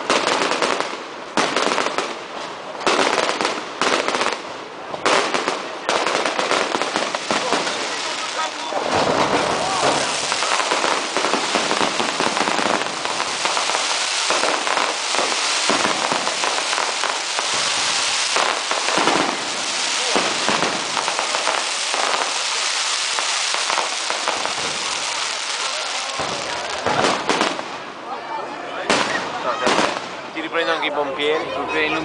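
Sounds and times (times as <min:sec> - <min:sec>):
heavier fireworks pops: 0:00.0 - 0:27.9, 0:28.8 - 0:30.3
fireworks crackling: 0:00.0 - 0:28.1, 0:28.8 - 0:30.9.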